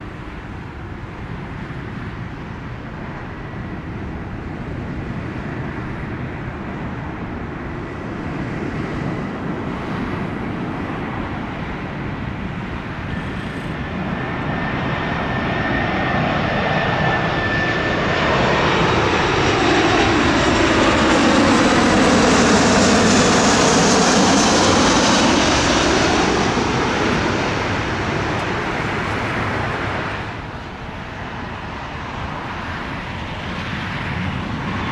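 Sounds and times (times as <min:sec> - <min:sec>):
jet airliner engines whining: 0:00.0 - 0:34.9.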